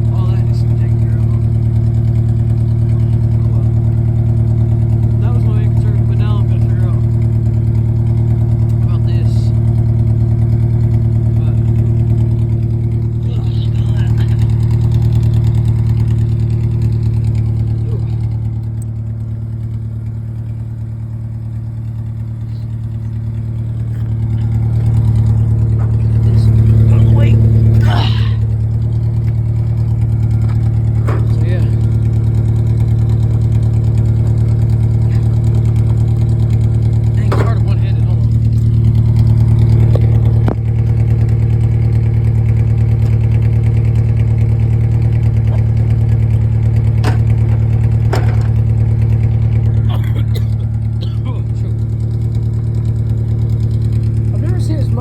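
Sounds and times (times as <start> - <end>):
pickup truck engine idling: 0.0 - 55.0.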